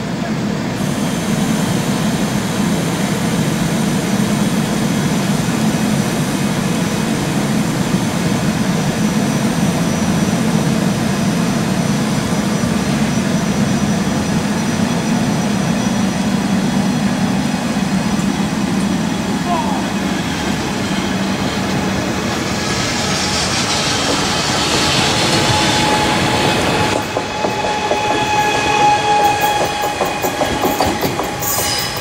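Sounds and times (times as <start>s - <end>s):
train low hum: 0.0s - 32.0s.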